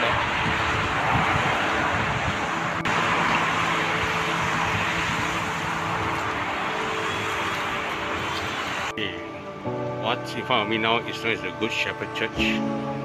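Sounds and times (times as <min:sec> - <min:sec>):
city traffic hiss: 0:00.0 - 0:13.0.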